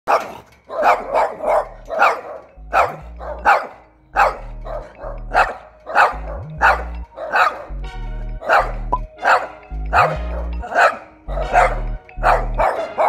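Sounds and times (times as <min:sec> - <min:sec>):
dog barking: 0:00.1 - 0:07.7, 0:08.4 - 0:13.0
background music with bass: 0:00.8 - 0:13.0.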